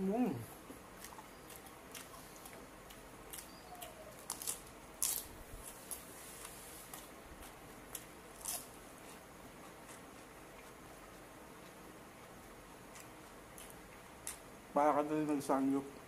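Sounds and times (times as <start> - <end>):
chewing and crunching food: 0.6 - 14.5.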